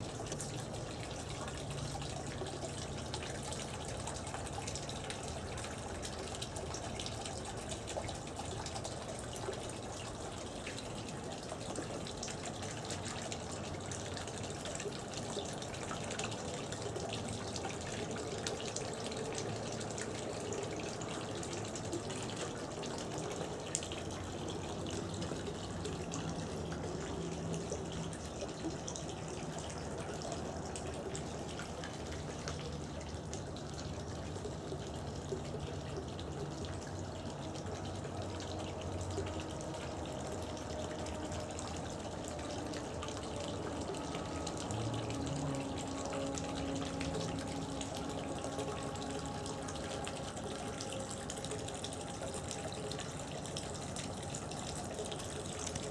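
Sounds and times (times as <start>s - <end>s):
water fountain splashing: 0.0s - 55.9s.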